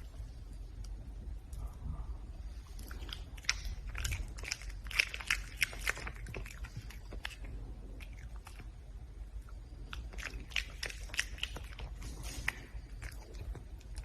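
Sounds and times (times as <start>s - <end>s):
red panda chewing and crunching food: 2.5s - 14.0s.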